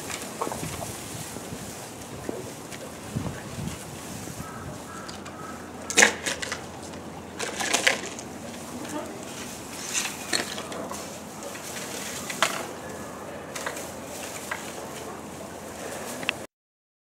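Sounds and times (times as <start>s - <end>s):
dry hay rustling and crackling: 0.0s - 16.5s
elephant eating hay: 0.0s - 16.5s.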